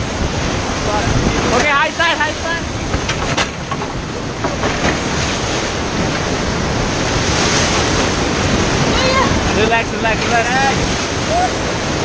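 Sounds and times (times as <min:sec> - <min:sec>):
whitewater rapids rushing: 0:00.0 - 0:12.0.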